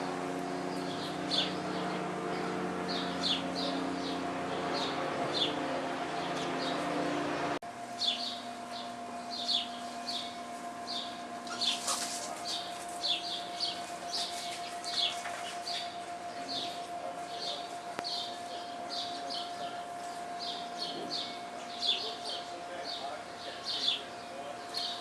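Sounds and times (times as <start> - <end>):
sparrows chirping: 0.0 - 25.0.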